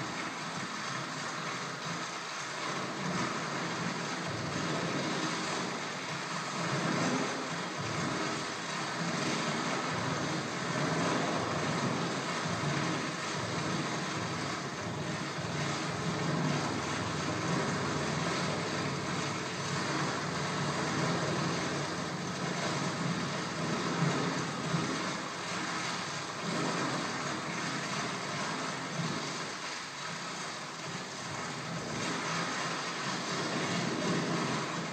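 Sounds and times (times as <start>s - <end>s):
steady noise-like drone: 0.0s - 29.6s.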